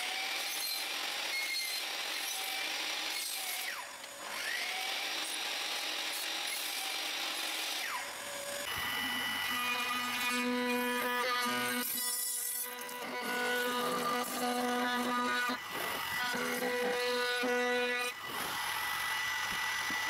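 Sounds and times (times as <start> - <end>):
miter saw cutting wood: 0.0 - 20.0
trim router whining: 3.5 - 20.0.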